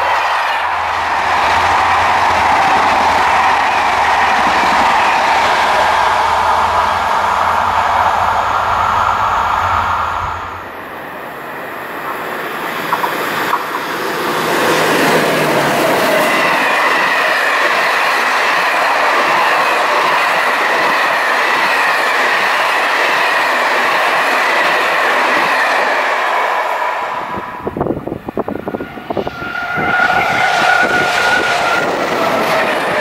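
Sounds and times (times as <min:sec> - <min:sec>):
train wheels rushing on track: 0:00.0 - 0:33.0.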